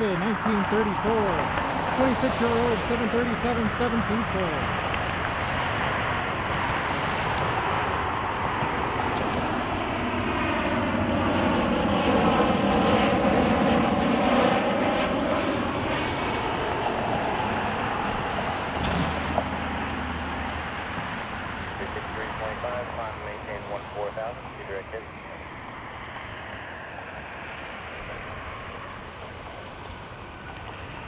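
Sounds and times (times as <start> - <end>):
jet engines roaring past: 0.0 - 31.0.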